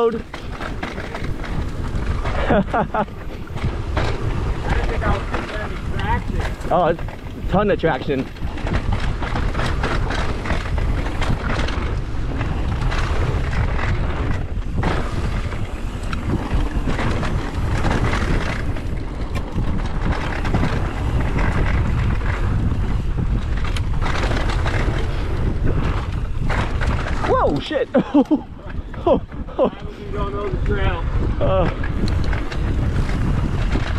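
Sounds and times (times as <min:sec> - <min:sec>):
bike rattles and knocks: 0:00.0 - 0:33.9
wind buffeting microphone: 0:00.0 - 0:33.9.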